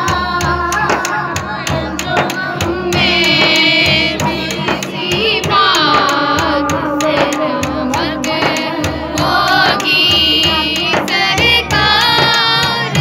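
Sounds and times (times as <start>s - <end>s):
boy singing devotional song: 0.0s - 13.0s
frame drum struck by hand: 0.0s - 13.0s.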